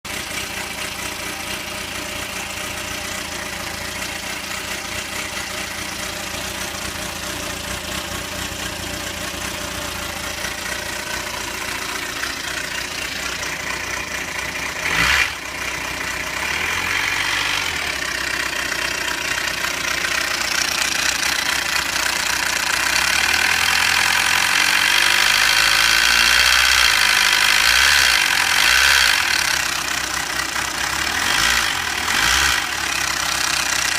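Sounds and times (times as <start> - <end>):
motorcycle engine idling: 0.0 - 16.8, 17.5 - 25.3, 29.2 - 33.9.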